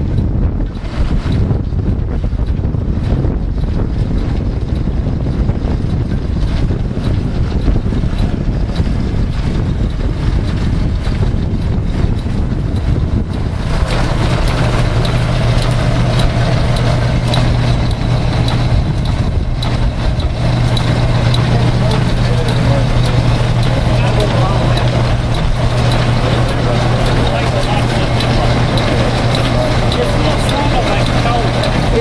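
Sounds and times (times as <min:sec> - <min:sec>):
belt-driven machinery running: 0:00.0 - 0:32.0
steady low hum: 0:00.0 - 0:32.0
wind on microphone: 0:00.0 - 0:32.0.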